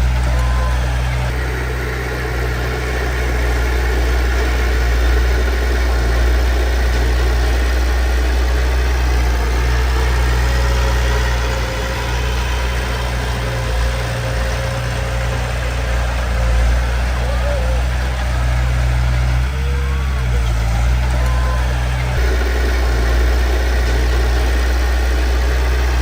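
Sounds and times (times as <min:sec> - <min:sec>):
heavy diesel engine rumbling: 0:00.0 - 0:26.0.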